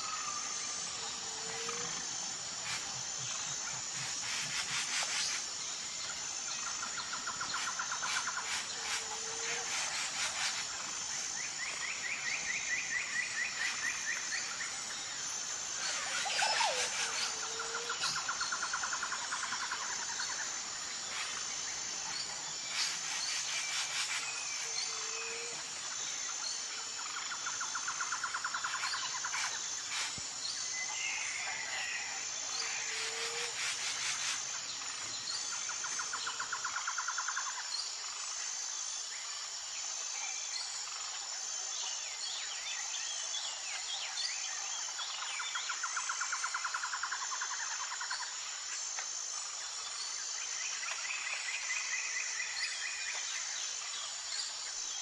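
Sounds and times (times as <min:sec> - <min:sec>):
insect pulsing drone: 0:00.0 - 0:55.0
insect trill: 0:00.0 - 0:55.0.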